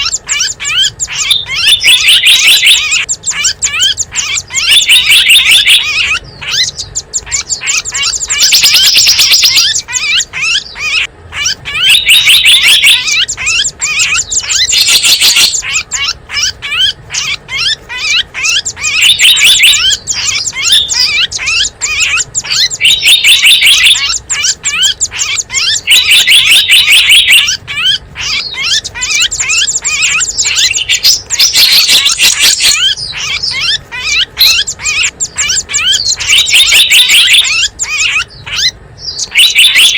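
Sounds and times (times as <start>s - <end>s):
bird trill: 0.0s - 39.9s
songbirds chirping: 0.0s - 39.9s.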